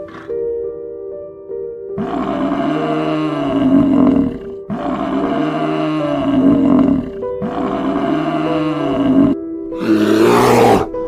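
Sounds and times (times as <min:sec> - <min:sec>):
background music sustained tones: 0:00.0 - 0:11.0
buffalo bellowing: 0:02.0 - 0:11.0.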